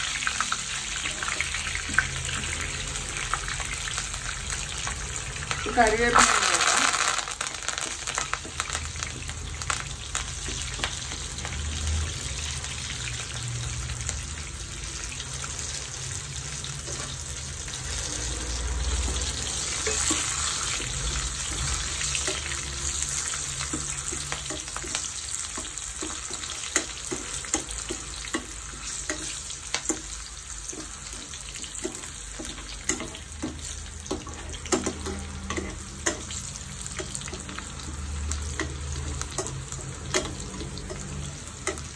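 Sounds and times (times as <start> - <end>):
food sizzling in hot oil: 0.0 - 41.9.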